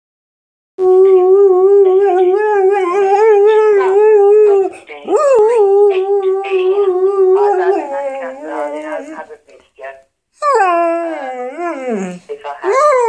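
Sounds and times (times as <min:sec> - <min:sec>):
dog howling: 0:00.8 - 0:09.2, 0:10.4 - 0:13.0.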